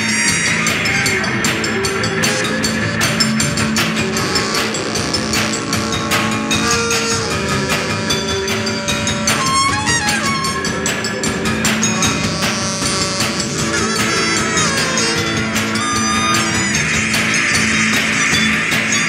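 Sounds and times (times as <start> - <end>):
metal tubes and drums struck: 0.0 - 19.0
plucked string instrument: 0.0 - 19.0.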